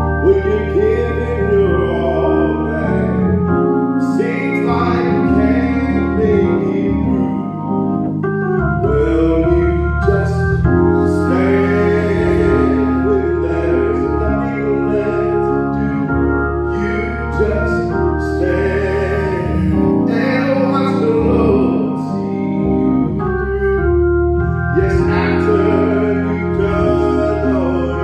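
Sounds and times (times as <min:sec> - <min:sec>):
organ playing slow chords: 0:00.0 - 0:28.0.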